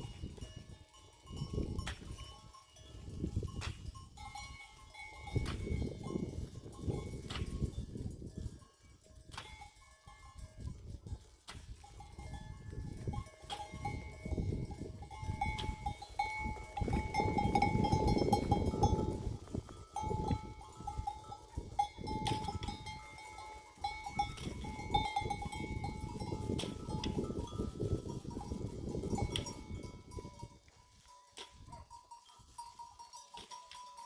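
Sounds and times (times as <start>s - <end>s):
metal livestock bell clanking: 0.0s - 34.0s.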